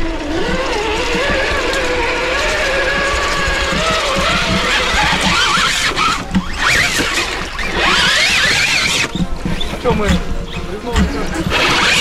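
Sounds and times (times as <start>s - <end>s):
electric motor and gears whining: 0.0s - 12.0s
water noise: 0.0s - 12.0s.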